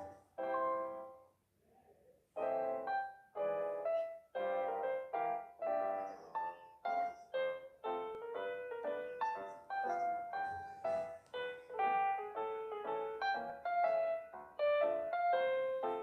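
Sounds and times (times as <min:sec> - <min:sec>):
piano chords and notes: 0:00.0 - 0:01.4, 0:02.4 - 0:16.0.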